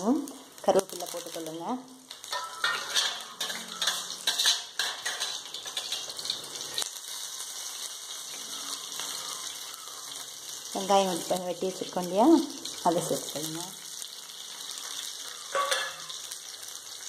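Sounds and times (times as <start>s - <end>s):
spices spluttering in hot oil: 0.0s - 17.0s.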